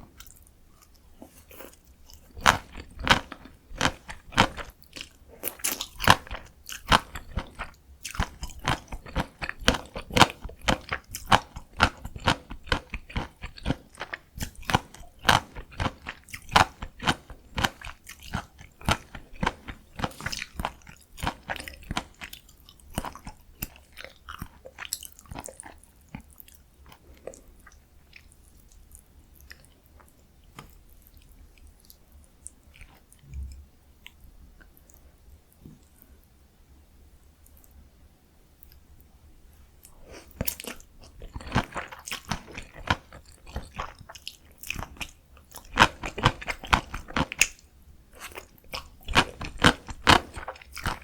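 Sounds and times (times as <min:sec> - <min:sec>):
chewing noodles: 0:00.1 - 0:35.0, 0:39.8 - 0:51.0.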